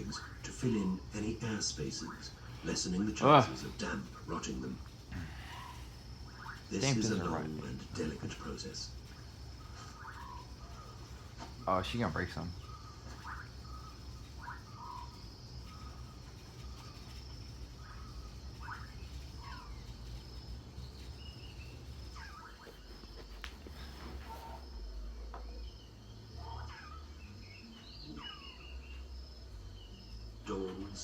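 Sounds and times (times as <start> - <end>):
insect trilling: 0.0 - 31.0
bird chirps: 5.3 - 31.0.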